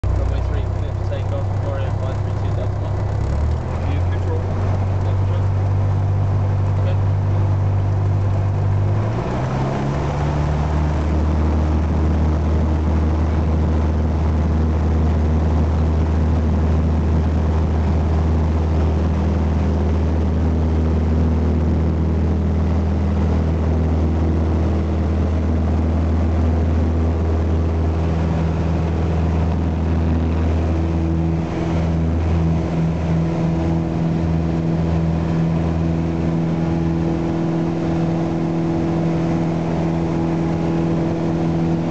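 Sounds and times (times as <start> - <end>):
propeller aircraft engine drone: 0.0 - 41.9.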